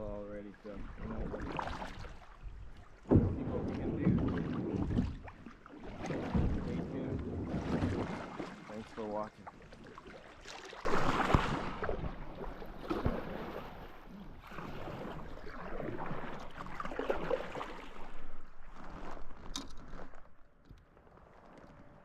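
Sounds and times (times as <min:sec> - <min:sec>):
water sloshing around kayak: 0:00.0 - 0:22.0.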